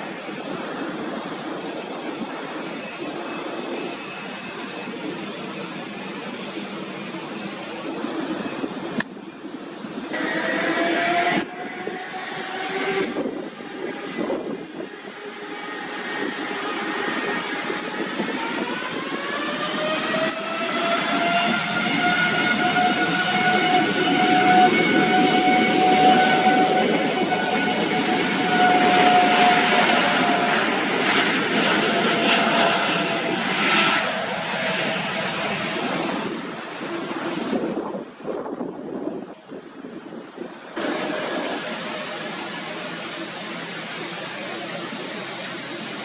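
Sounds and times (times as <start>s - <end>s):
jet engines whining: 0.0s - 46.0s
steady rushing noise: 0.0s - 46.0s.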